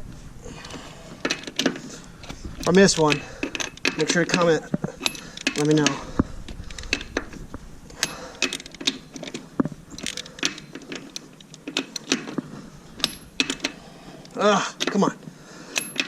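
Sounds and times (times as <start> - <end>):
sharp clicks and metallic clatter: 0.6 - 15.1, 15.7 - 16.0.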